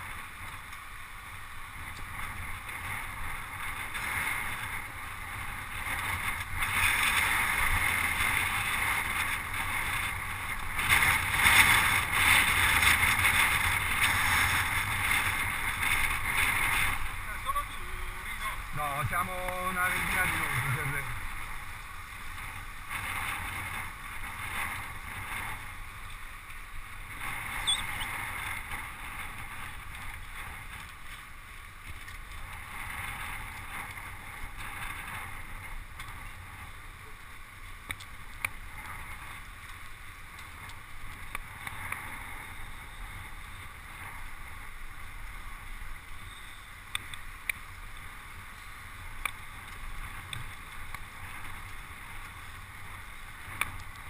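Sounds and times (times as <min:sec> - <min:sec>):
bicycle road noise: 0:00.0 - 0:54.0.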